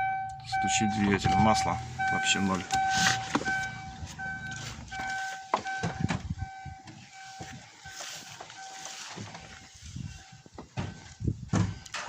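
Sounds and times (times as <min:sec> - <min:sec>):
car warning chime beeping: 0:00.0 - 0:11.9.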